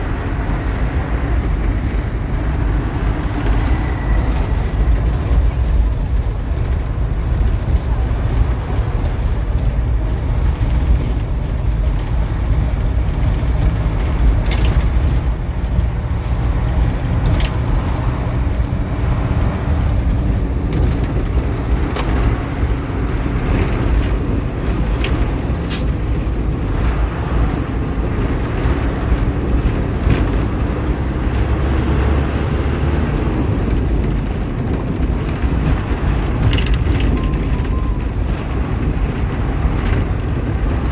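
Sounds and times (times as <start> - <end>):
vehicle engine rumbling: 0.0 - 40.9.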